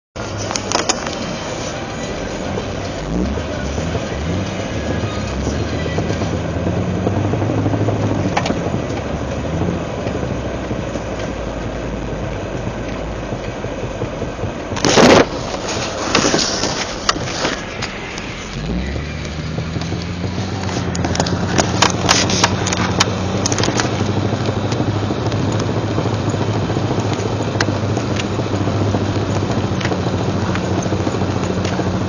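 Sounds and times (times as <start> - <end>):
drivetrain rumble: 0.2 - 32.0.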